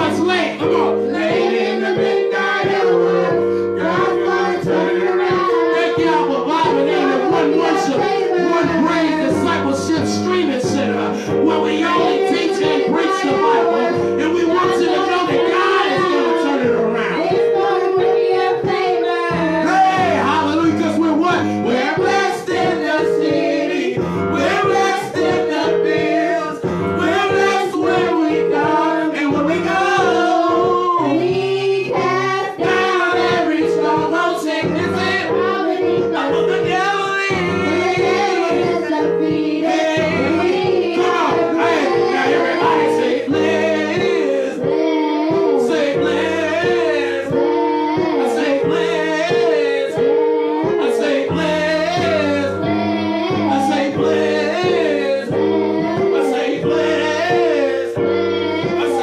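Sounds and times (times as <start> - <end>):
instrumental backing with bass: 0.0 - 59.0
man and children singing gospel: 0.0 - 59.0.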